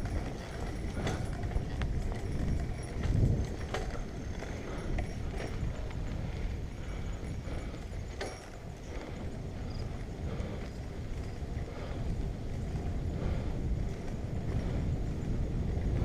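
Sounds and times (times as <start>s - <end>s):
bike rattling clicks and knocks: 0.0s - 16.0s
wind rumble on microphone: 0.0s - 16.0s.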